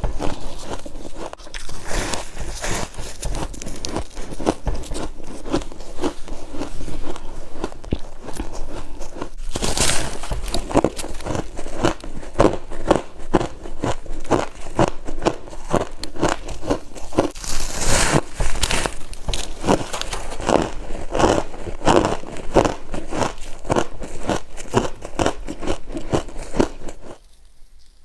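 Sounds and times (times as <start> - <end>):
frost being chewed: 0.0 - 28.0.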